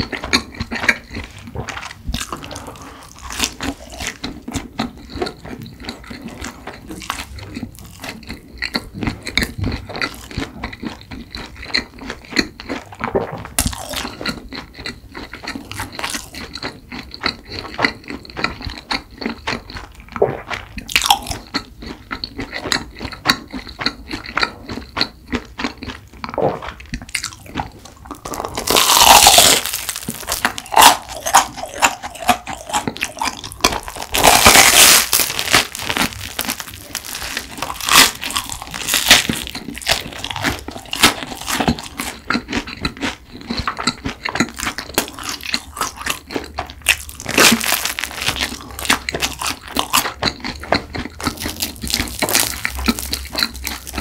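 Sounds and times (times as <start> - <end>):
bread crunching: 0.0 - 54.0
wet mouth sounds: 0.0 - 54.0.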